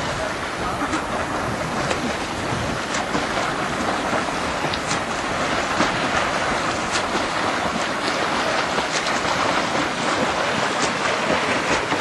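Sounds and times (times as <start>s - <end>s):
sea water sloshing and splashing: 0.0s - 12.0s
wind on microphone: 0.0s - 12.0s.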